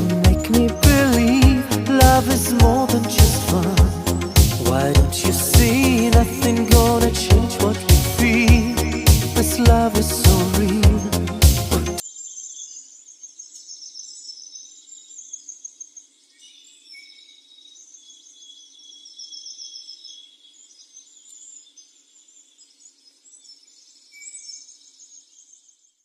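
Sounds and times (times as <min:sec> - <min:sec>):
songbirds chirping and twittering: 0:00.0 - 0:26.0.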